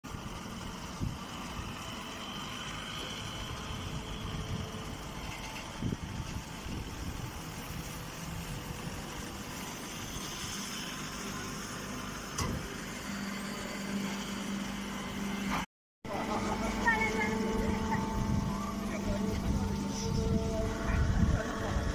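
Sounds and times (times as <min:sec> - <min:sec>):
baler mechanical drone: 0:00.1 - 0:21.9
steady low hum: 0:00.1 - 0:21.9.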